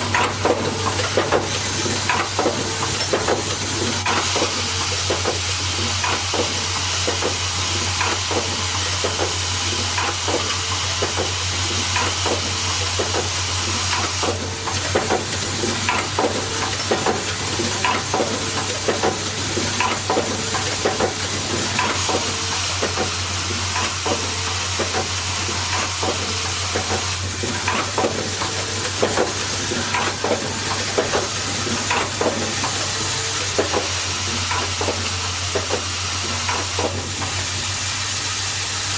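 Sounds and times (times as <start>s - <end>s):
welding hiss: 0.0s - 38.9s.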